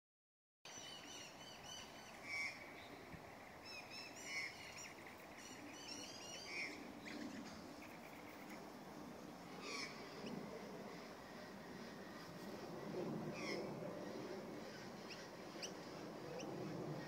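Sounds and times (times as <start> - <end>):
birds chirping: 0.7 - 17.0.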